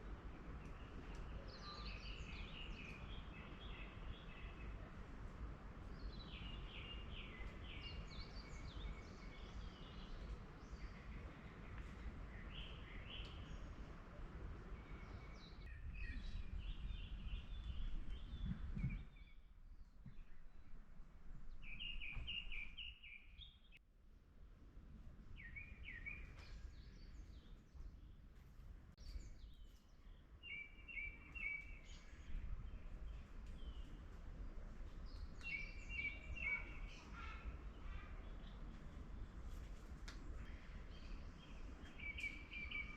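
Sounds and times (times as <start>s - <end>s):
songbirds chirping: 0.0s - 23.8s, 24.6s - 42.9s.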